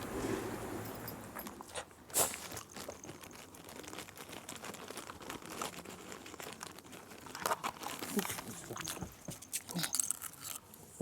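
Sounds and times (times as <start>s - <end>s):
dog crunching a hard treat: 1.4s - 11.0s.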